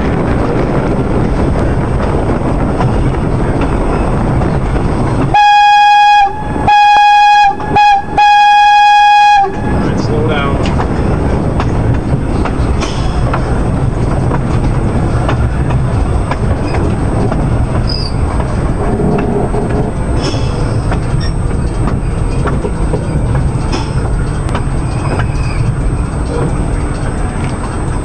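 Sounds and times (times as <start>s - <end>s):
wheels clicking over rails: 0.0s - 5.4s, 9.5s - 28.0s
subway car rumbling on track: 0.0s - 28.0s.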